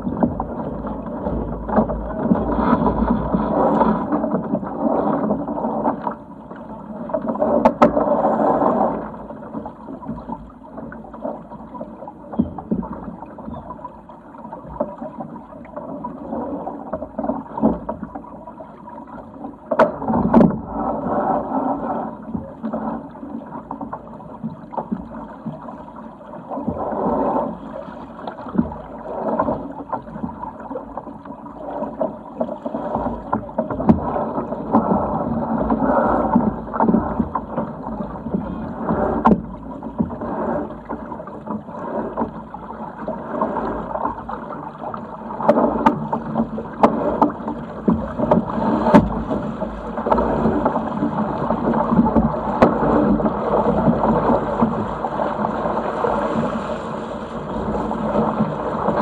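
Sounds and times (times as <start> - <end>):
water rushing along yacht hull: 0.0 - 59.0.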